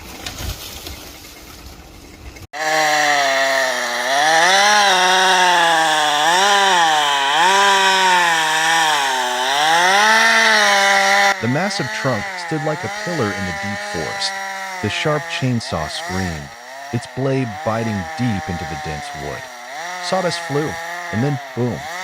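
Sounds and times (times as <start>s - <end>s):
chainsaw cutting wood: 2.5s - 22.0s.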